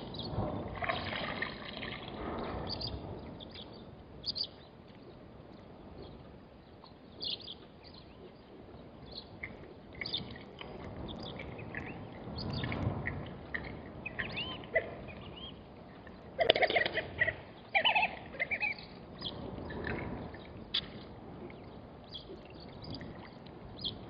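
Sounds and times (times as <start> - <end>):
wind rumble on microphone: 0.0 - 24.0
birds calling and chirping: 2.4 - 24.0.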